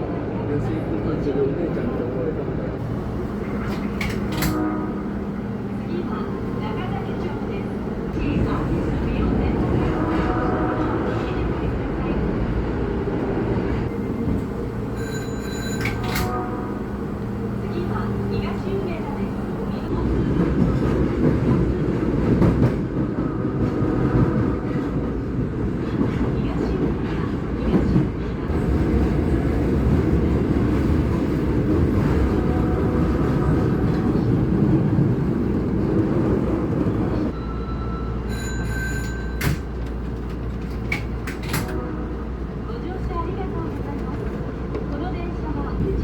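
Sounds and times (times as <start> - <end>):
subway wheels rumbling on rail: 0.0 - 46.0.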